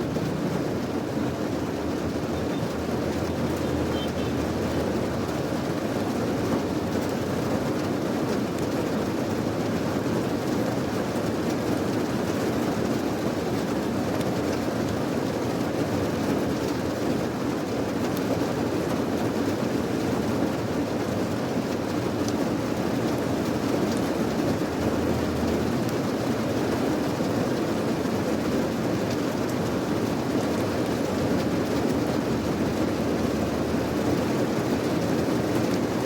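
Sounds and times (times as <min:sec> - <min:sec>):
raindrops ticking: 0:00.0 - 0:15.0, 0:19.8 - 0:36.0
steady rain: 0:00.0 - 0:36.0.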